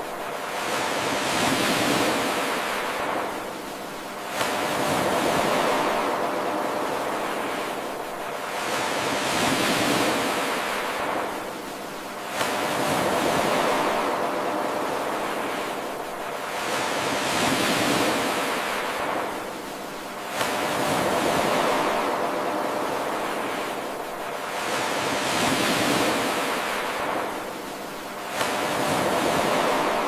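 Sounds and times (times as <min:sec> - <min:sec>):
ocean waves washing in and out: 0:00.0 - 0:30.0.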